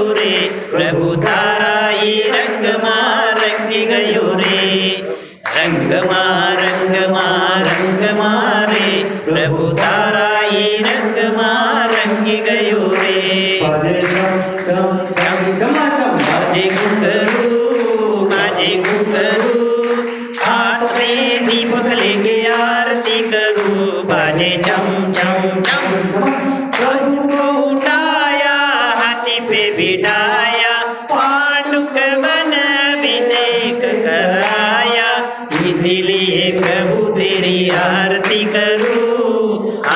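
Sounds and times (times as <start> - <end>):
devotional song sung through microphone: 0.0 - 39.9
people clapping along: 0.0 - 39.9.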